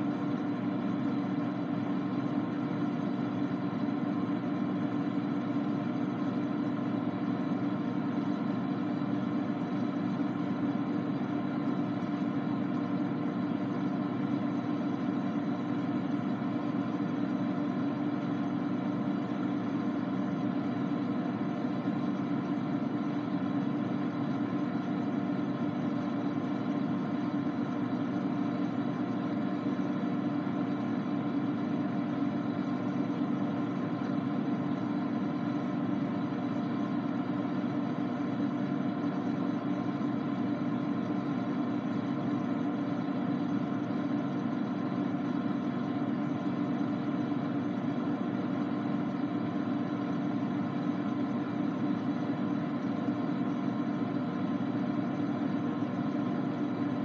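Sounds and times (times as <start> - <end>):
refrigerator humming: 0.0 - 57.0.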